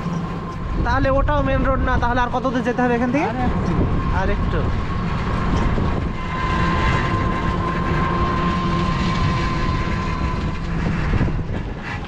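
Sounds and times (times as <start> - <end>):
electric motor whine: 0.0 - 12.0
low rumble of riding vehicle: 0.0 - 12.0.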